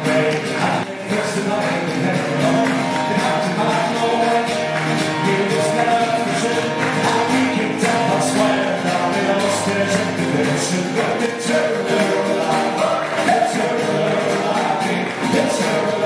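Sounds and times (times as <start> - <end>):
acoustic guitar strumming: 0.0 - 16.0
bouzouki strumming: 0.0 - 16.0.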